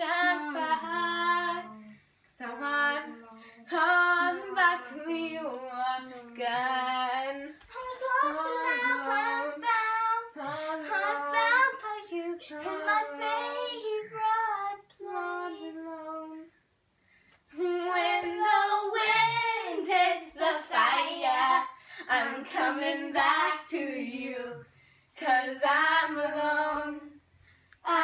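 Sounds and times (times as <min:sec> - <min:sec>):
girls singing unaccompanied: 0:00.0 - 0:16.5, 0:17.5 - 0:28.0.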